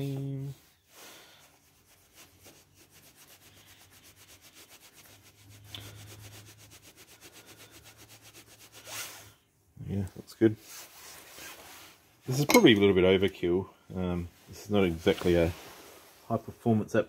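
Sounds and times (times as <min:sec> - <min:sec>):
cloth rubbing on metal: 0:00.0 - 0:13.1, 0:14.0 - 0:16.8.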